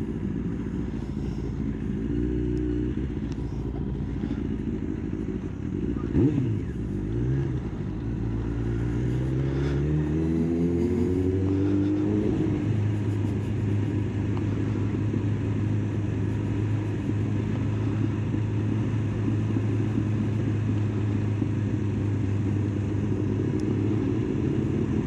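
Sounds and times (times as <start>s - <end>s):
motorcycle engine droning at low revs: 0.0s - 25.0s.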